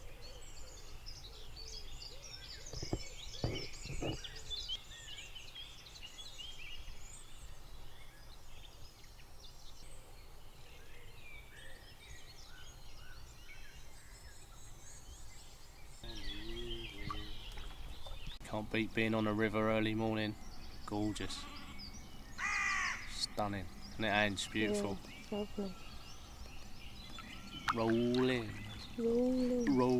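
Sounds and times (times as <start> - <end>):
songbirds chirping chorus: 0.0 - 29.9.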